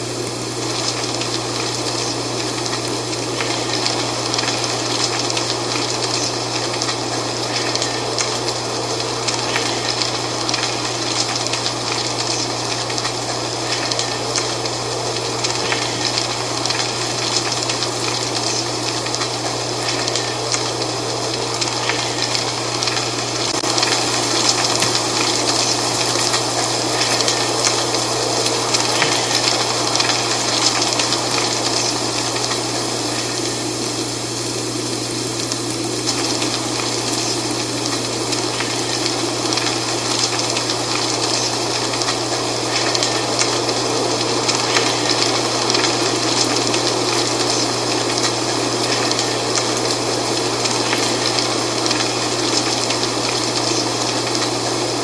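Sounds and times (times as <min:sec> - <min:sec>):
constant low hum: 0:00.0 - 0:55.0
dry leaves rustling in wind: 0:00.0 - 0:55.0.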